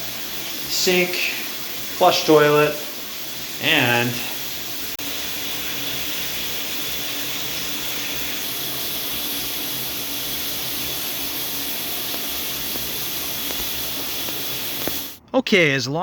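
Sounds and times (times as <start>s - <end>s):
shower water running: 0.0s - 15.2s.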